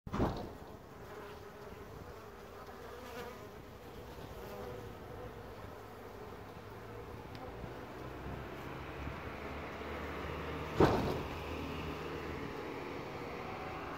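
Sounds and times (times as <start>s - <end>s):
honeybees buzzing: 0.4s - 13.9s.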